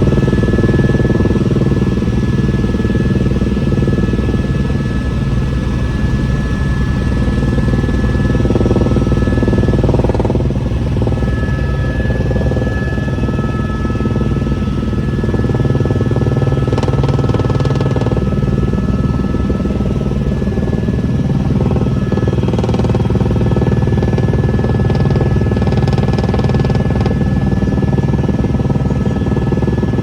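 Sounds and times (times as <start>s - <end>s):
helicopter rotor chop: 0.0s - 30.0s
turbine whine: 0.0s - 30.0s.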